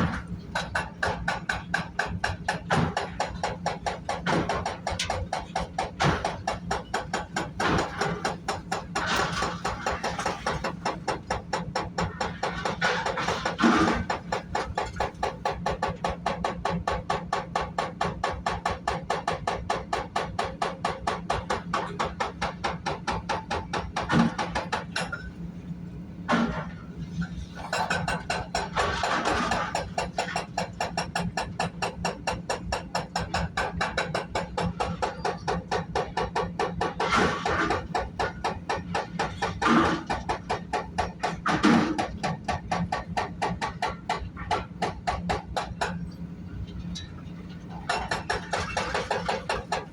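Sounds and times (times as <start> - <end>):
hydraulic breaker pounding concrete: 0.0 - 25.3, 26.3 - 46.1, 47.0 - 49.9.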